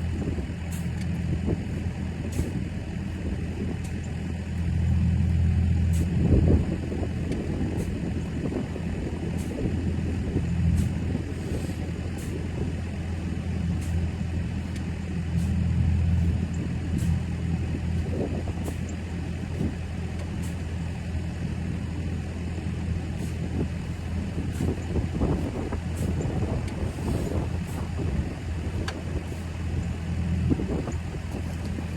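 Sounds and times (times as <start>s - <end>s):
engine running steadily: 0.0s - 31.9s
wind buffeting microphone: 6.0s - 31.9s.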